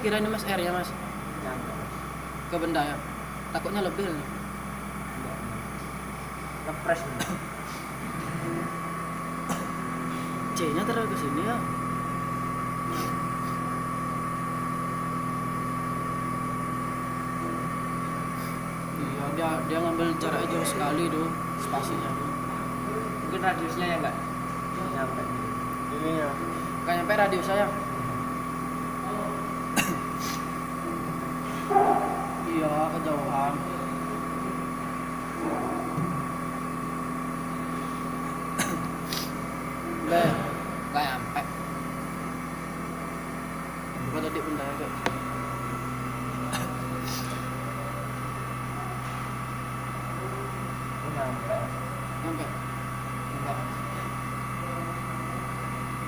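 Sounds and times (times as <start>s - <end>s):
milling machine humming: 0.0s - 56.0s.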